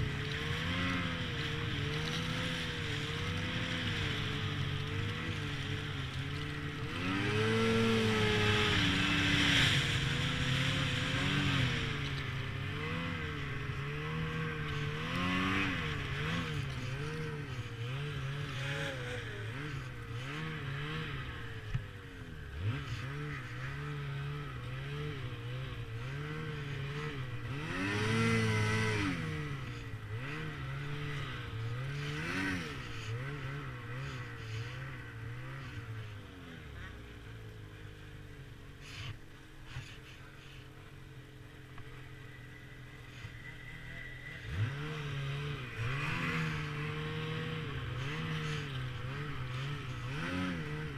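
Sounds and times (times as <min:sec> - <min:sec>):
snowmobile engine running: 0:00.0 - 0:50.9.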